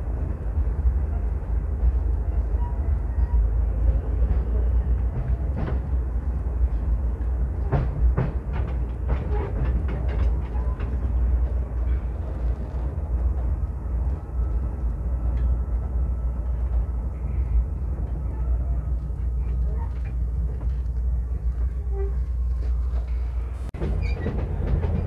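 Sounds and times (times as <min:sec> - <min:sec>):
train clicks and knocks: 0:00.0 - 0:25.0
train low rumble: 0:00.0 - 0:25.0.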